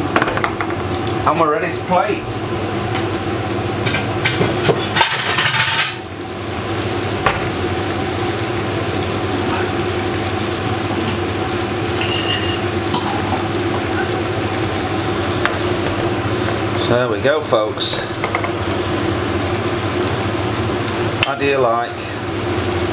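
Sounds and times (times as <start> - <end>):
steady hum: 0.0 - 22.9
stir fry sizzling in a pan: 0.0 - 22.9.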